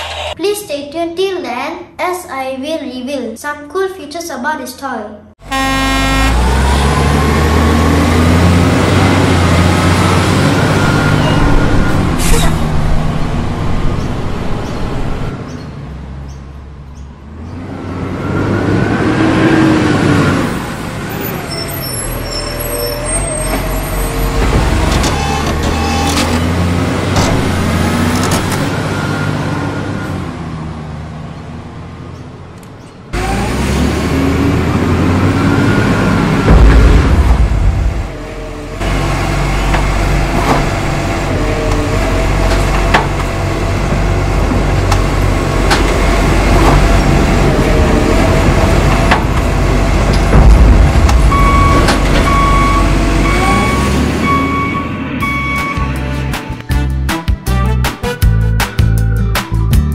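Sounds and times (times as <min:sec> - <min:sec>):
diesel truck engine rumbling: 0:05.4 - 0:59.9.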